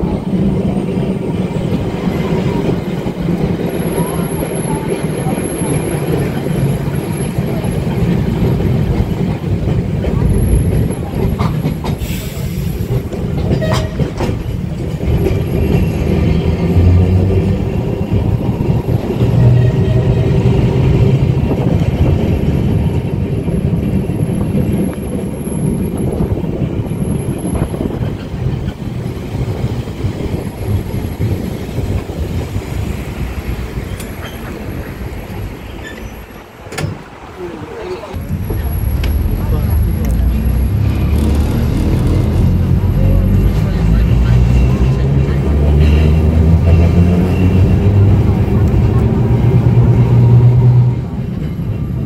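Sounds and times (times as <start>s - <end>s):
tram wheels rumbling on rail: 0.0s - 52.0s.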